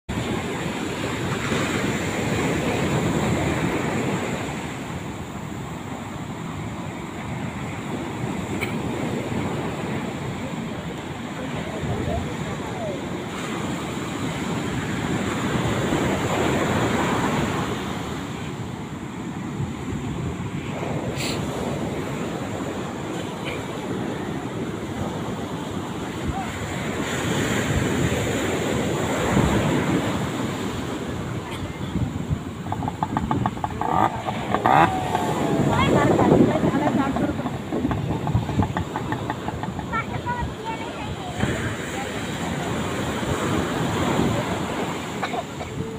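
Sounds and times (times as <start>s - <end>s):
sea waves breaking: 0.1s - 45.9s
wind buffeting microphone: 0.1s - 45.9s.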